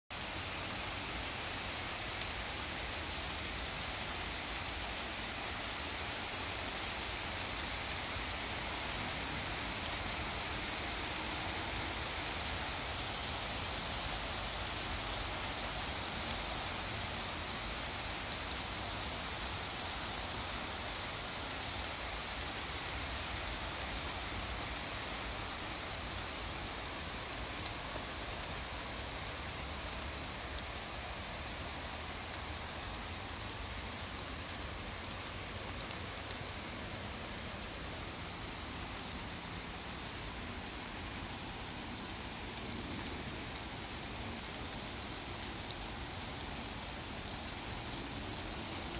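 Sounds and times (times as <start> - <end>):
rain on leafy canopy: 0.1 - 48.9.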